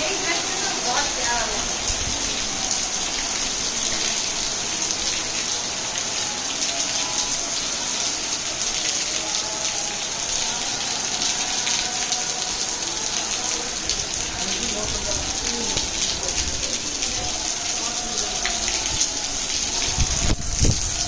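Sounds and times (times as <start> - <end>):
rain on stone paving: 0.0 - 21.0.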